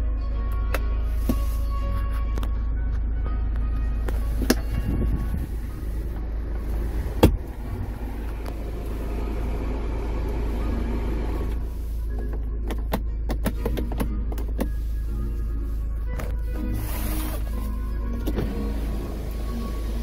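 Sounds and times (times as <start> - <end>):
car cabin rumble: 0.8 - 20.0.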